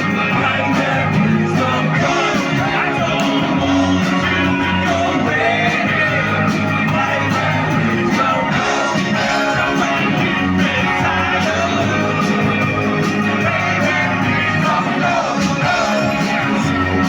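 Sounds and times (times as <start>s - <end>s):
lead singer singing: 0.0s - 17.0s
live rock band playing: 0.0s - 17.0s.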